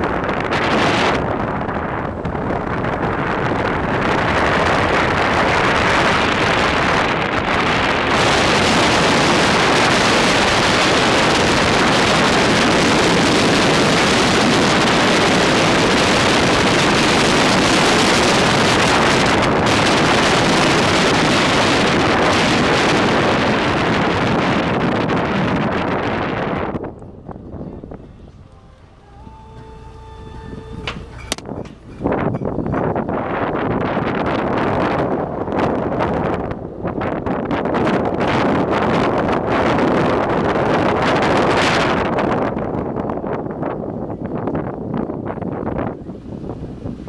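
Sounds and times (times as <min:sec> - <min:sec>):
vehicle running noise: 0:00.0 - 0:42.3
wind rushing over microphone: 0:00.0 - 0:47.0.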